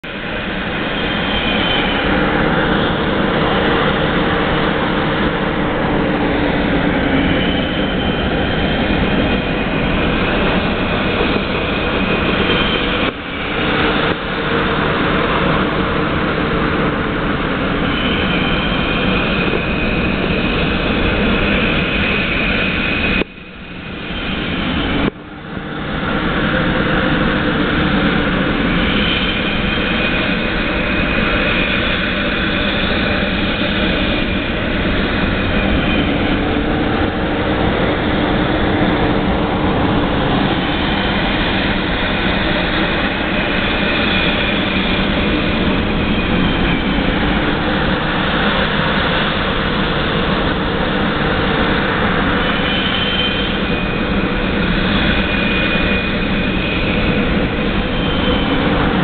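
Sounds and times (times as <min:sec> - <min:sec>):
gas flare roaring: 0:00.0 - 0:59.0.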